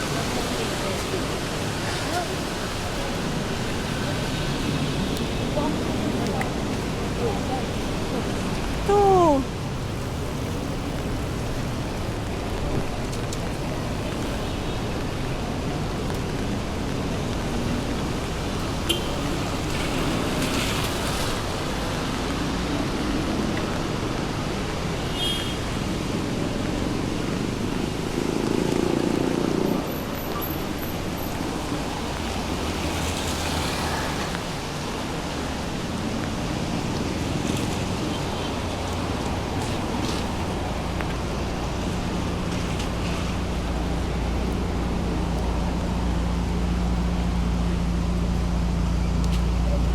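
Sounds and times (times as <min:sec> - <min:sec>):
city street traffic: 0:00.0 - 0:49.9
heavy rain hissing: 0:00.0 - 0:49.9.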